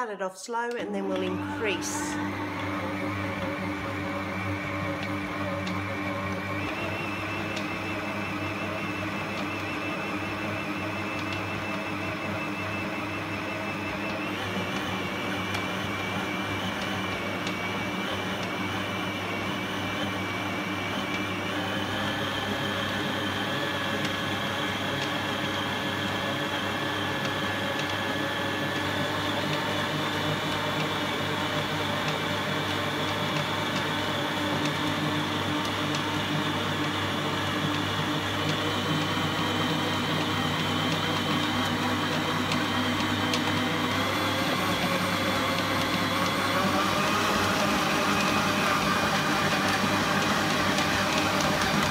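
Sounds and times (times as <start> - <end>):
stand mixer motor whine: 1.0 - 51.9.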